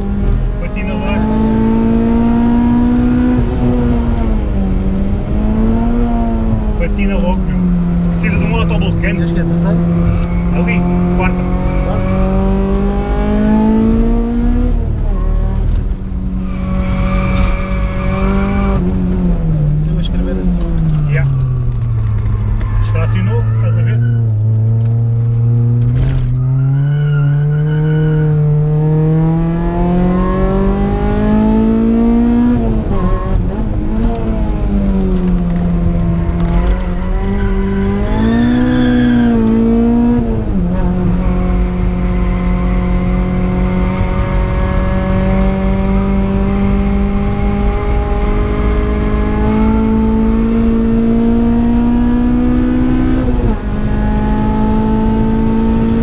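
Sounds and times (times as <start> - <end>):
car engine revving: 0.0 - 56.0
gear change: 0.0 - 56.0.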